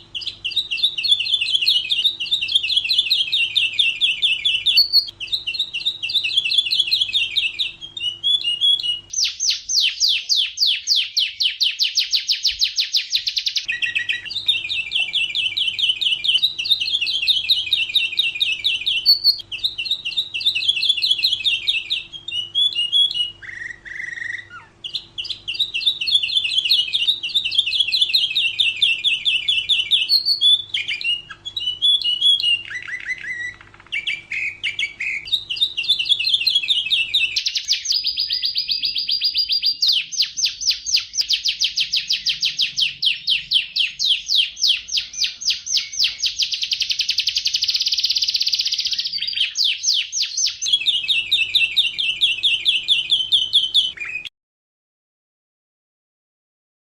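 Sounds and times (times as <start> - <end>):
canary singing trills: 0.0 - 54.3.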